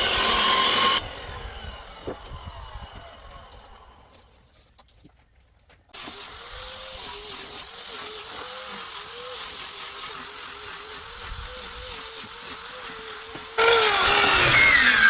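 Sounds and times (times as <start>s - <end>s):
power tool motor running: 0.0s - 4.4s, 6.0s - 15.0s.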